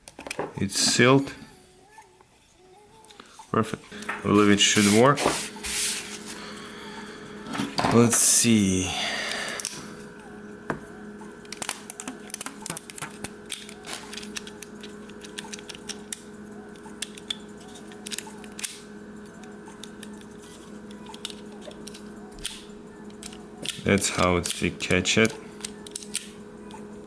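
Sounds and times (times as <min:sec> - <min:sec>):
steady low hum: 0:00.5 - 0:27.0.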